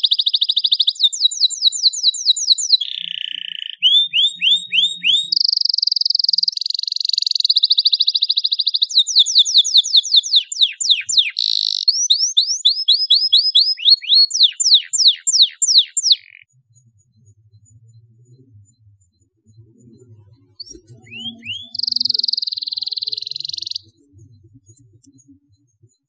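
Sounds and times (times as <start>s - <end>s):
canary singing: 0.0s - 16.5s, 20.6s - 25.0s.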